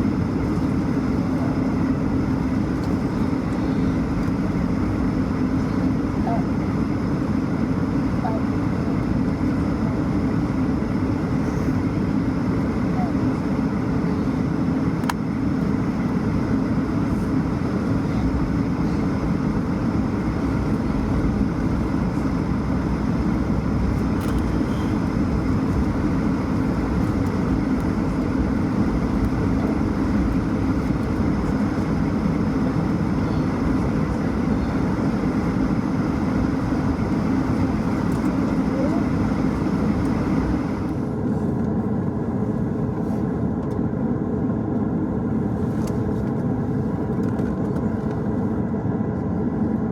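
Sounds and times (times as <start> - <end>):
airplane cabin drone: 0.0 - 49.9.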